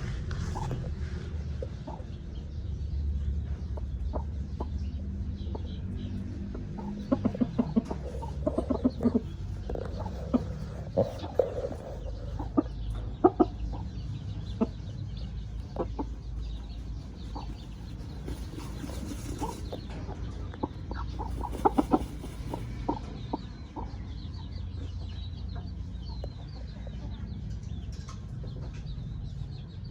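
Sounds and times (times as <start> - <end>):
chickens clucking: 0.0 - 2.5, 3.2 - 29.8.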